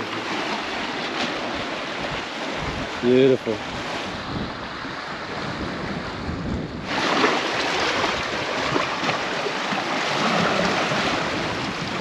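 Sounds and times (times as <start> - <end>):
water splashing close by: 0.0 - 5.2, 6.8 - 12.0
sea waves on rocks: 0.0 - 12.0.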